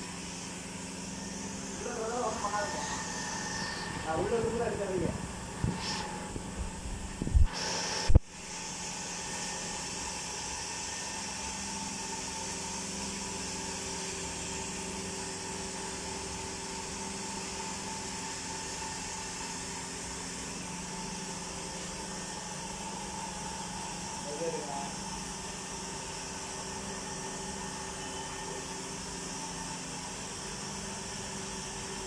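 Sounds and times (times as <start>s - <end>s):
machinery humming with hiss: 0.0s - 32.0s.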